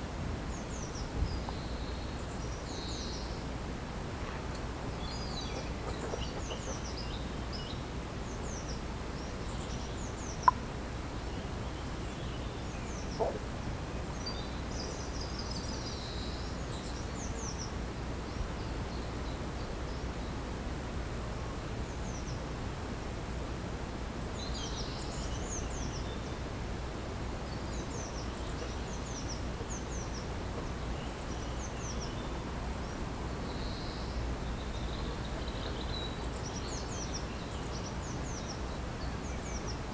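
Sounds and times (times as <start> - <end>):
low background noise: 0.0 - 39.9
small birds chirping: 0.5 - 20.5, 27.3 - 39.9.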